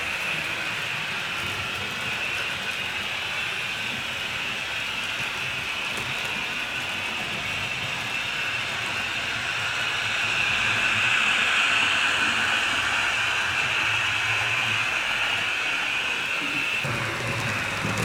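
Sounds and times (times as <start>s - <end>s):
model train whirring on track: 0.0s - 18.0s.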